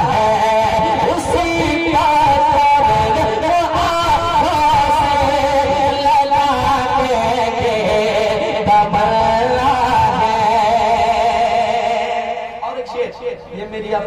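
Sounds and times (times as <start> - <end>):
man singing through microphone: 0.0 - 14.0.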